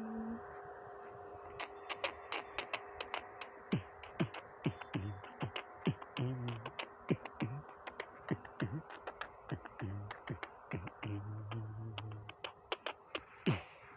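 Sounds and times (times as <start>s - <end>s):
beatboxing: 1.6s - 13.9s.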